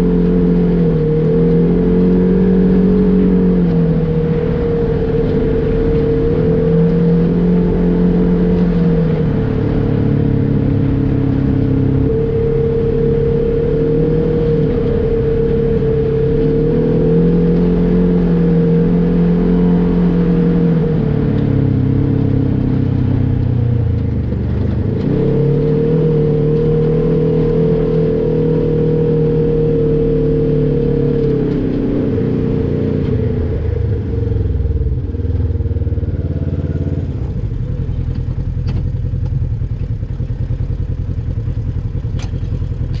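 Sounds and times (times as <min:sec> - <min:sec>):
engine revving: 0:00.0 - 0:39.4.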